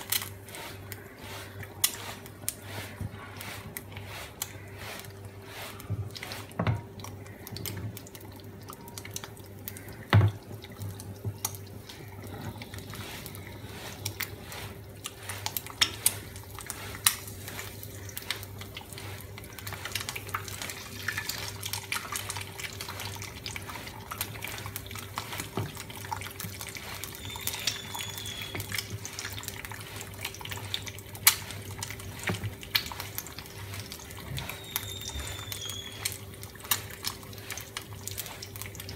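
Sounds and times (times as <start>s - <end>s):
eggs sizzling in oil: 0.0s - 38.9s
low steady hum: 0.0s - 38.9s
oil crackling and popping: 0.0s - 38.9s.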